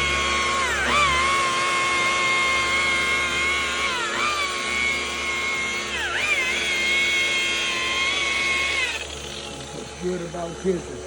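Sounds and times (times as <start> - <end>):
polisher motor whine: 0.0 - 11.0.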